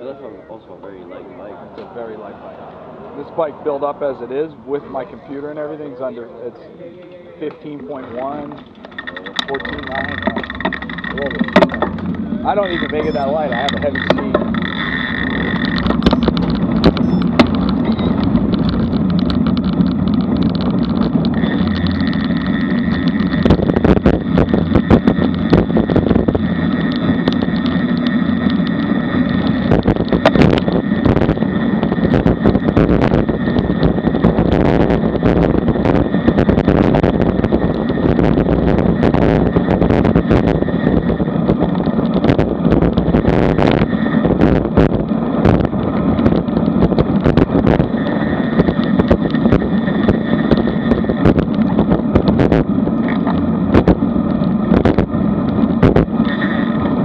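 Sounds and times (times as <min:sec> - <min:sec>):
tyre and road noise: 0:00.0 - 0:57.0
wind rushing over microphone: 0:07.5 - 0:57.0
microphone knocks and buffets: 0:08.0 - 0:57.0.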